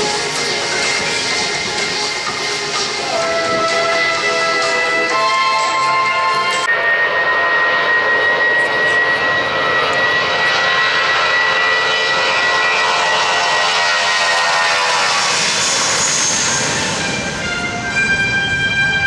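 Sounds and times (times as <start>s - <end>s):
jet engine roar: 0.0s - 19.0s
jet engine whine: 0.0s - 19.0s.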